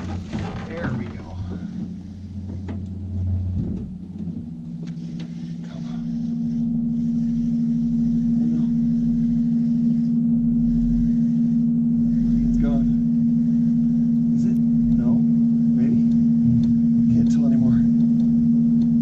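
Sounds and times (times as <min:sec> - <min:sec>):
electric boat motor humming: 0:00.0 - 0:19.0.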